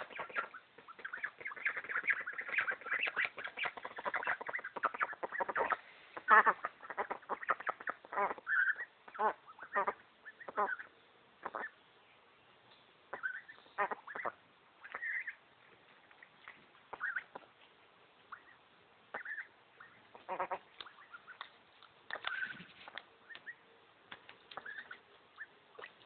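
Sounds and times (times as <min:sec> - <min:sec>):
ducklings quacking: 0:00.0 - 0:11.8, 0:13.1 - 0:15.4, 0:16.9 - 0:17.6, 0:18.3 - 0:21.5, 0:22.1 - 0:23.6, 0:24.5 - 0:26.0.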